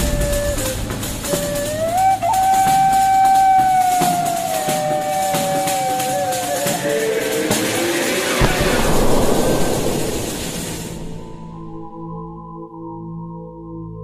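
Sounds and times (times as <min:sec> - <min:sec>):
light rattling percussion: 0:00.0 - 0:12.3.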